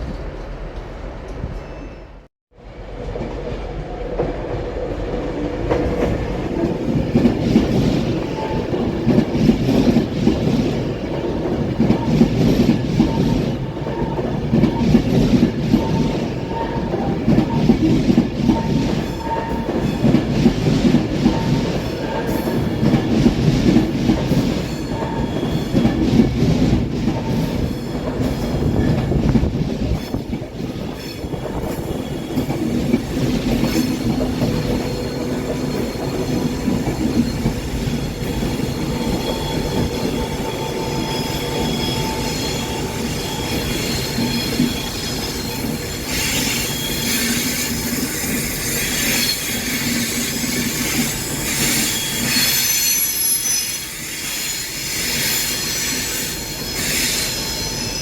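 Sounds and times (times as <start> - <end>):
train rumbling past: 0.0 - 58.0.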